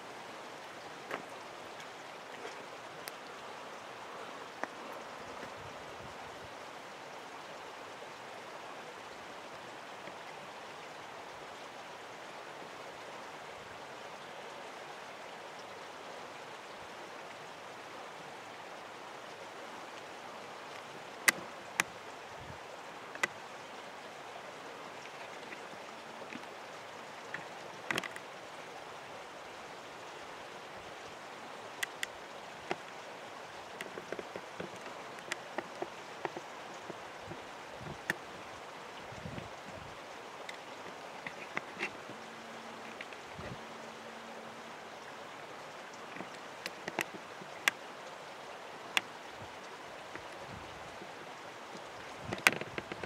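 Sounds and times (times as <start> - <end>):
steady rushing hiss: 0.0 - 53.0.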